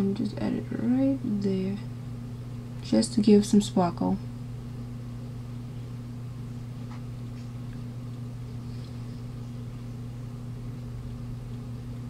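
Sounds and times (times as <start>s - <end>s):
room tone hum and hiss: 0.0s - 12.0s.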